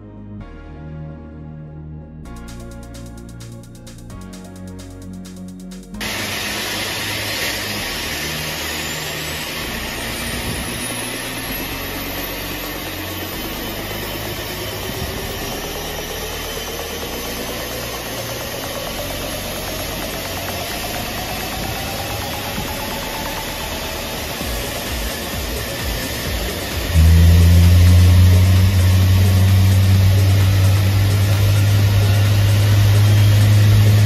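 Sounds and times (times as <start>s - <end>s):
jet engine whine rising: 2.3s - 34.0s.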